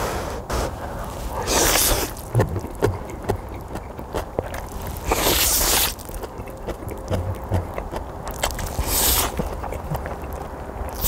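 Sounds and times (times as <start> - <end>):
chewing: 0.6 - 11.0
noodle slurp: 0.6 - 11.0
mouth clicks: 0.9 - 11.0.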